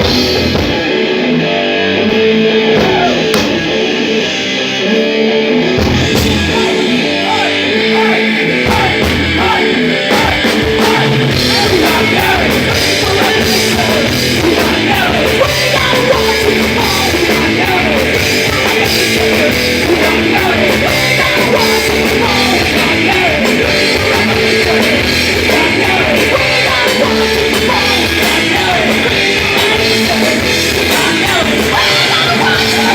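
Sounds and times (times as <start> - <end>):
bass guitar: 0.0 - 32.9
drum kit: 0.0 - 32.9
electric guitars: 0.0 - 32.9.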